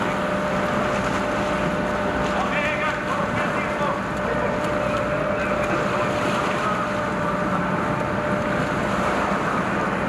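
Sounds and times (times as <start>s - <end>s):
boat engine hum: 0.0s - 10.0s
sea water washing: 0.0s - 10.0s
wind: 0.0s - 10.0s.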